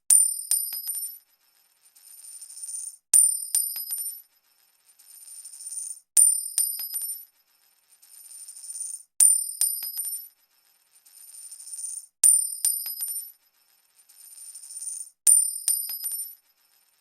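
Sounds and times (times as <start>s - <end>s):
coin dropping and bouncing: 0.1s - 17.0s.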